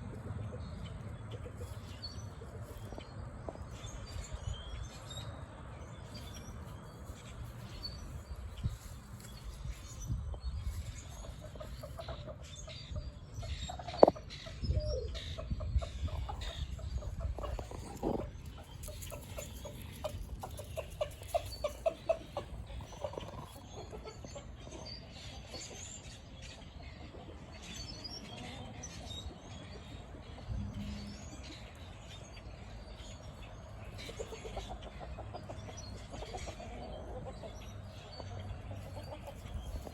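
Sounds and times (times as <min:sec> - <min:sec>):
chicken clucking: 0:00.1 - 0:04.5, 0:06.1 - 0:39.9.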